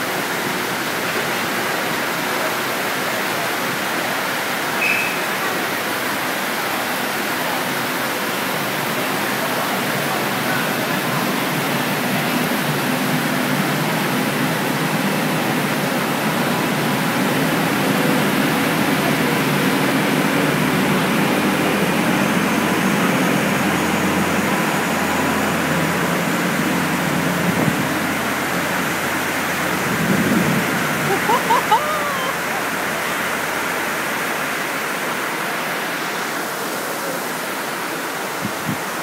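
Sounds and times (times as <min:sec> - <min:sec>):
heavy rain on canopy roof: 0:00.0 - 0:39.0.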